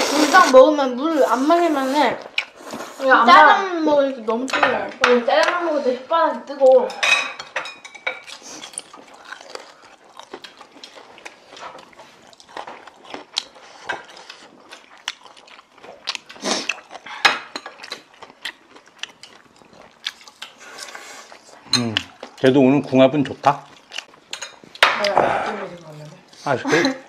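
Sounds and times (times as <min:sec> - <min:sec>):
people chewing: 0:00.0 - 0:27.0.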